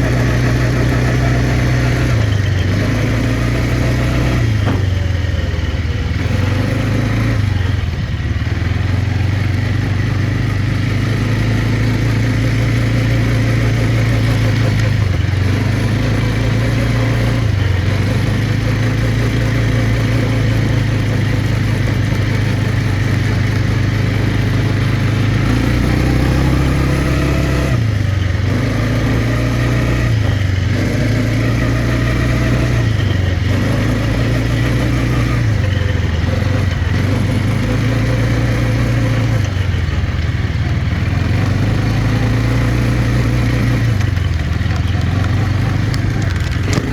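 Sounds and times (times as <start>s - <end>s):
quad bike engine revving: 0.0s - 46.9s.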